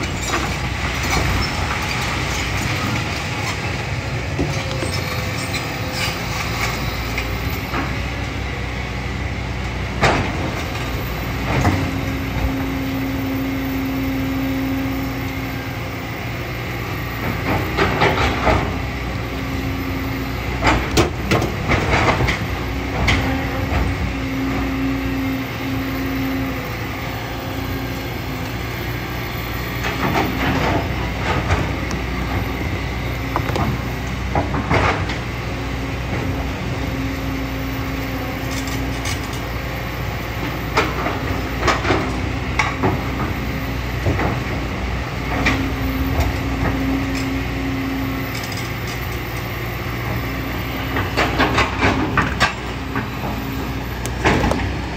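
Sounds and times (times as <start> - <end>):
diesel engine running: 0.0 - 54.9
hydraulic whine: 0.0 - 54.9.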